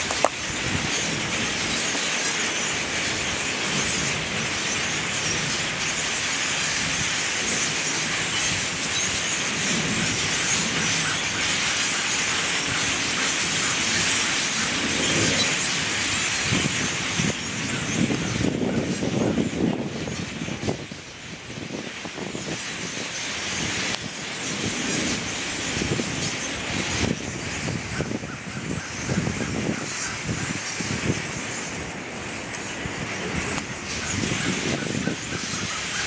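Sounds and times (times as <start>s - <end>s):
flock of grackles calling: 0.0s - 20.7s, 22.4s - 36.0s.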